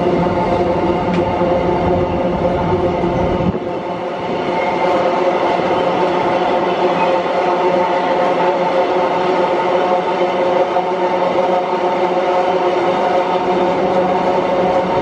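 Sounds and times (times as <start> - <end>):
train engine droning: 0.0 - 15.0
wheels rumbling on rail: 0.0 - 15.0.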